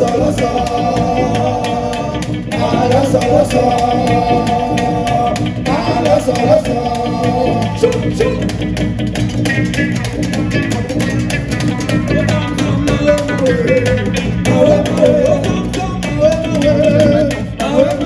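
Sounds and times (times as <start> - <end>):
person singing lead vocal: 0.0 - 8.6, 11.6 - 18.0
bass: 0.0 - 18.0
plucked guitars: 0.0 - 18.0
steady percussion: 0.0 - 18.0.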